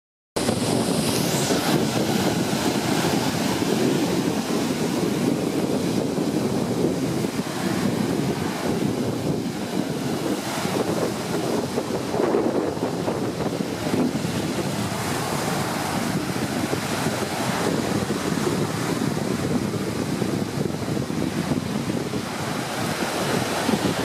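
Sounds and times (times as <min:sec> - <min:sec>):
waves washing onto pebble beach: 0:00.4 - 0:24.0
wind rumbling on microphone: 0:00.4 - 0:24.0.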